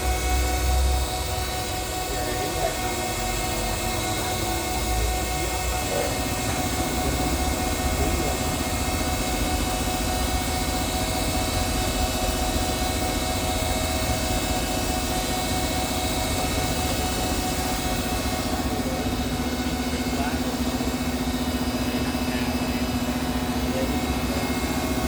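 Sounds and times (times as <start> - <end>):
lathe mechanical hum: 0.0 - 25.0.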